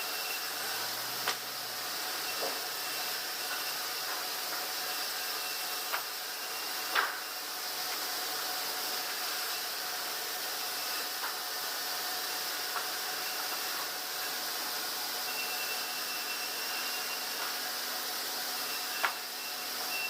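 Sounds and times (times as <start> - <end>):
sawmill machinery hum: 0.0 - 20.0.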